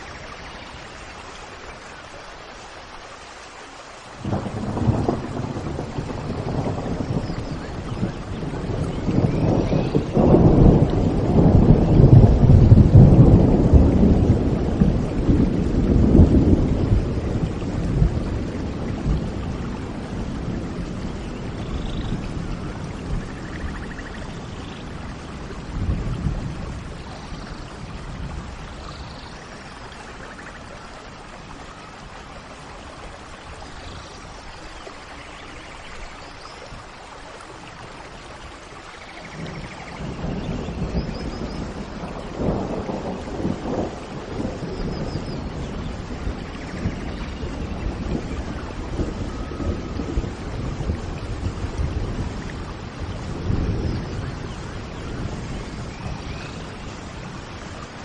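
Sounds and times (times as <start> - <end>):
steady rain: 0.0 - 58.0
rolling thunder rumble: 4.2 - 32.0, 39.0 - 58.0.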